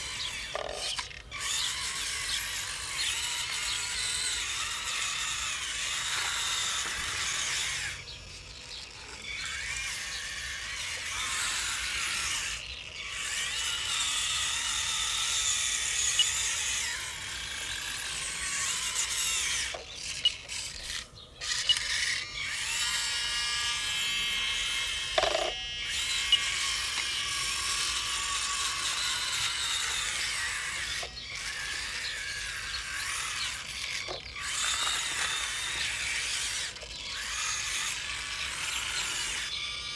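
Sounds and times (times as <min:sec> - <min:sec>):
small electric motors whining: 0:00.0 - 0:39.9.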